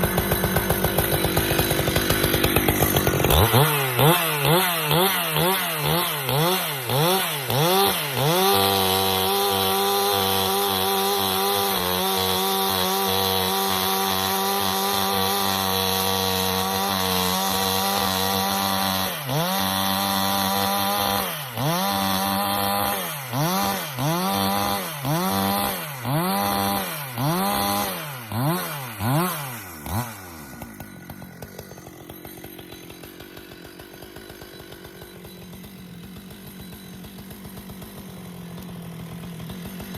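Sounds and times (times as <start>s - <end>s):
chainsaw idling: 0.0s - 39.9s
chainsaw revving: 0.0s - 39.9s.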